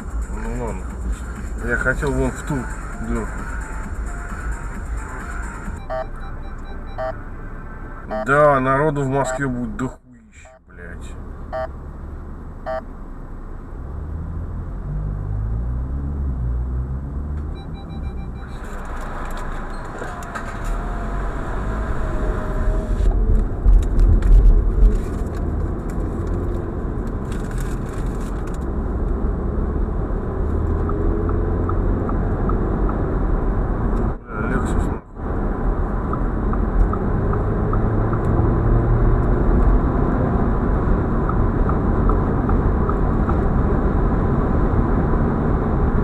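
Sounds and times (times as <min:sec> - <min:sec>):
road and wind noise: 0:00.0 - 0:46.0
car engine accelerating: 0:08.6 - 0:46.0.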